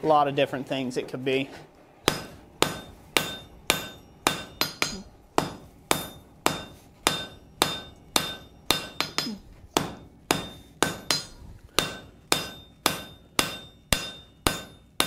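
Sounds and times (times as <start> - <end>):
hammer striking metal on anvil: 2.0 - 15.0.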